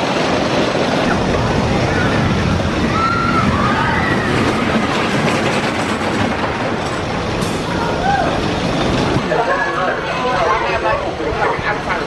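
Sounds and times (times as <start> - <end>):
roller coaster train rolling on track: 0.0 - 12.0.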